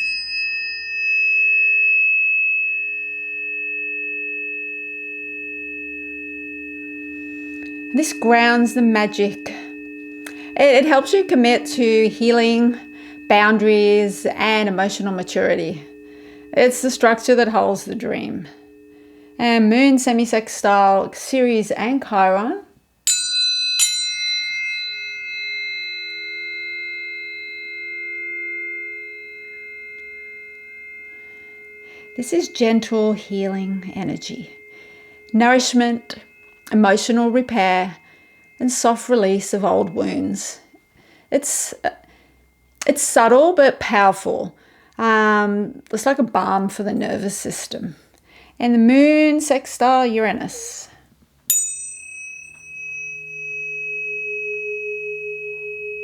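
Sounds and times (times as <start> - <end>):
tuning forks ringing: 0.0 - 56.0.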